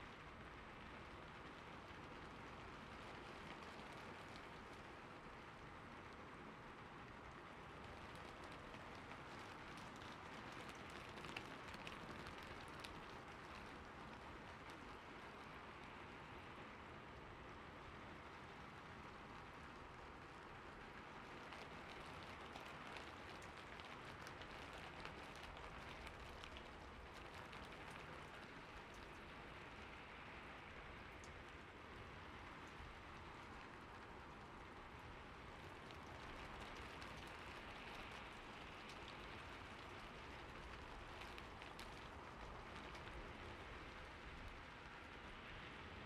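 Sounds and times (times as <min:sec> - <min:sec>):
fine water drips: 0:00.2 - 0:46.0.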